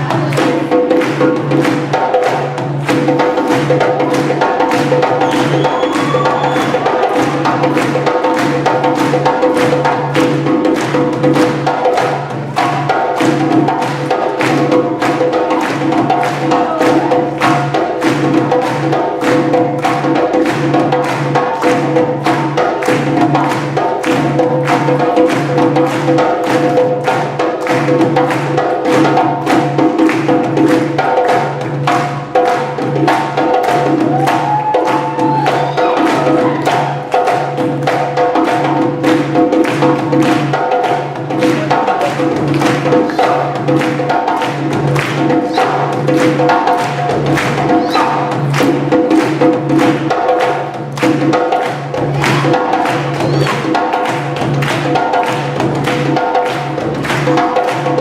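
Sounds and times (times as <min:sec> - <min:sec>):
hand drum ensemble playing: 0:00.0 - 0:58.0.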